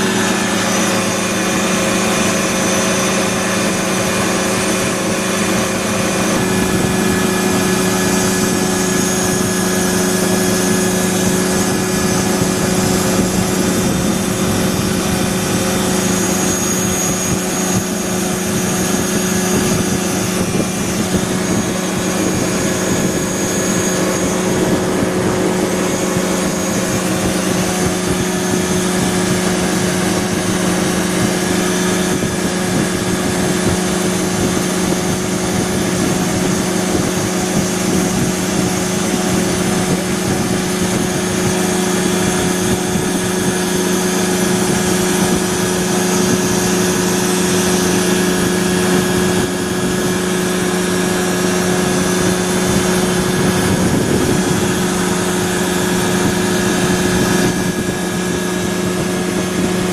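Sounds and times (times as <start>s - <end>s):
aircraft engine and propeller: 0.0s - 59.9s.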